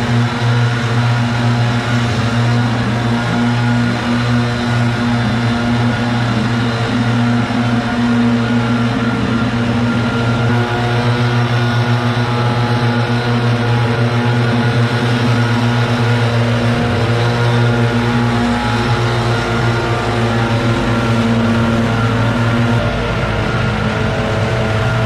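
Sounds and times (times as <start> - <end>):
engine droning steadily: 0.0 - 25.0.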